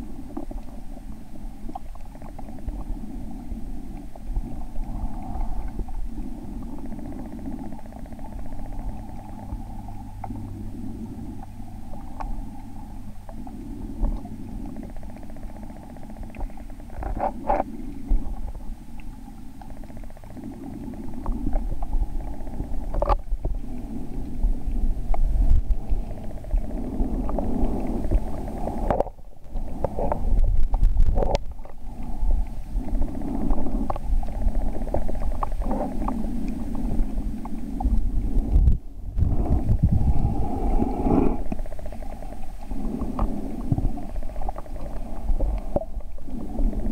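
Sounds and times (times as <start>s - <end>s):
muffled underwater stream rumble: 0.0s - 46.9s.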